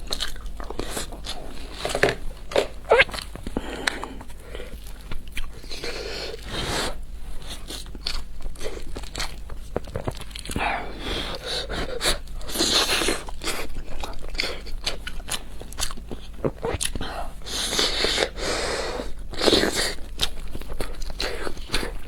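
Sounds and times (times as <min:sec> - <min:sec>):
person biting and chewing food: 0:00.0 - 0:10.7, 0:11.3 - 0:18.3, 0:19.3 - 0:22.0.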